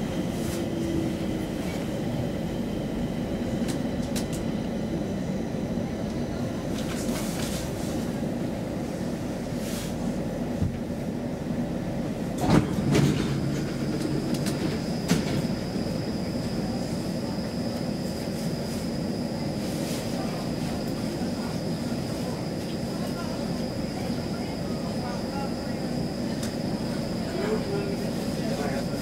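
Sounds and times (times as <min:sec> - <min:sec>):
train equipment hum: 0:00.0 - 0:29.0.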